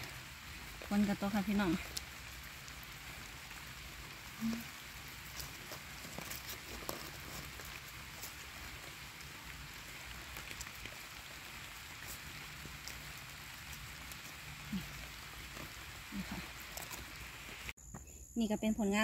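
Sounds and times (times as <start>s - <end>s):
rain hissing on leaves: 0.0s - 17.8s.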